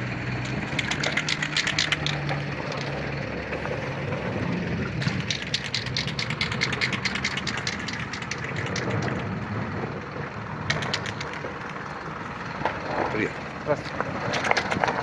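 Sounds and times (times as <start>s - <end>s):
vehicle engine idling: 0.0s - 15.0s
quick irregular clicking: 0.4s - 4.2s, 4.9s - 9.5s, 10.5s - 13.1s, 13.9s - 15.0s.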